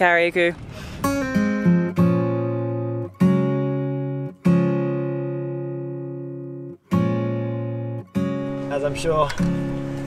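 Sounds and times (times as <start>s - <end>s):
acoustic guitar strumming: 1.0s - 10.0s.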